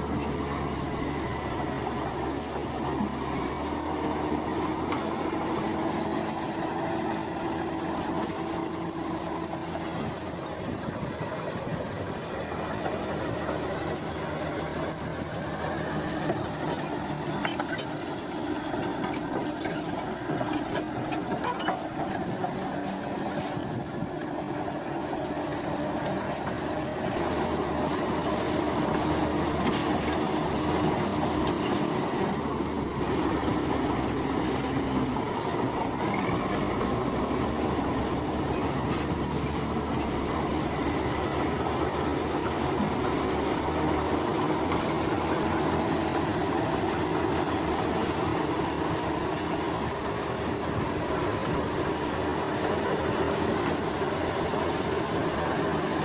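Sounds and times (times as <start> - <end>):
bulldozer diesel engine running: 0.0 - 56.0
steel tracks clattering and squealing: 0.0 - 56.0.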